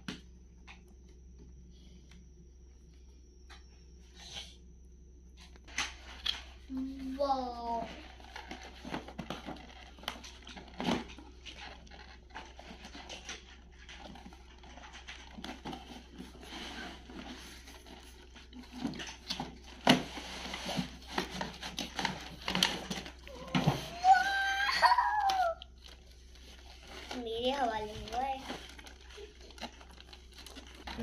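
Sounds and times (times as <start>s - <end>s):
cardboard and plastic rustling: 5.7s - 31.0s.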